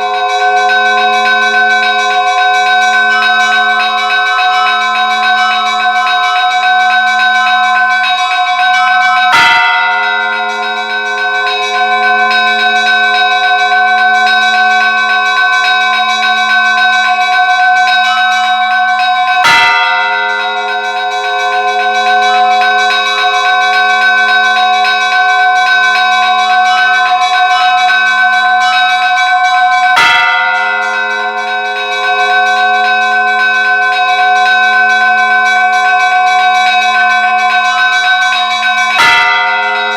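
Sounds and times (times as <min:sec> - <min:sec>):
small church bells chiming: 0:00.0 - 0:39.9.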